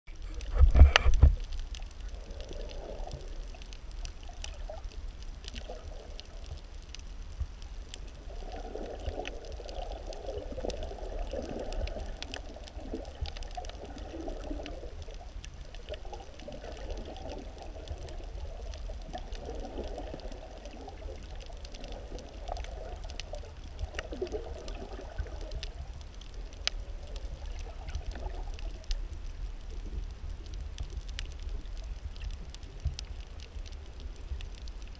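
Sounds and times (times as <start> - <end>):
faint clicks: 0.1 - 34.9
underwater water rumble: 0.1 - 34.9.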